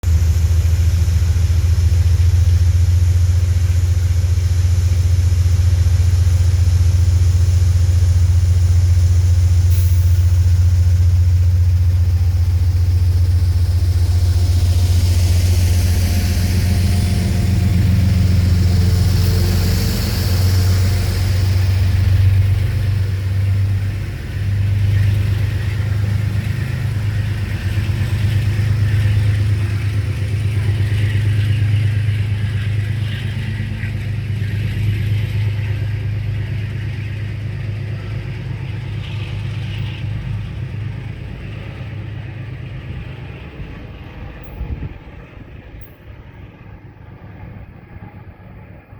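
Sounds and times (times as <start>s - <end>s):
train hiss: 0.0s - 45.0s
train low drone: 0.0s - 48.9s.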